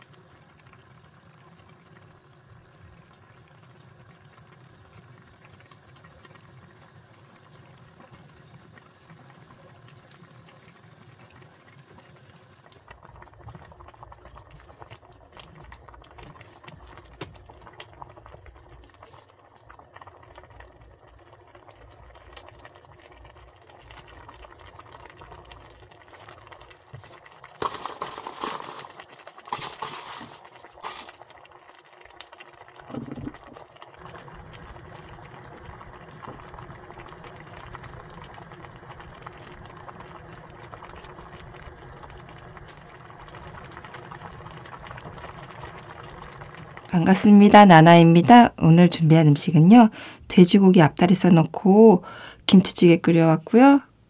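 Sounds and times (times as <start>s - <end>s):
stew bubbling in a pan: 0.0s - 54.0s.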